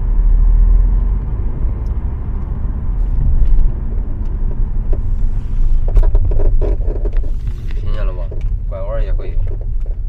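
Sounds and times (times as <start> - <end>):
road and tyre rumble in car: 0.0 - 10.0
suspension creaks and ticks: 1.1 - 10.0.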